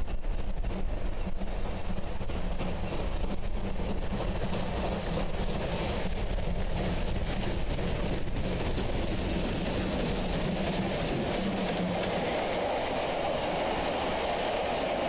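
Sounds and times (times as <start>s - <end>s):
steam locomotive running: 0.0s - 15.0s
wind buffeting microphone: 0.0s - 15.0s.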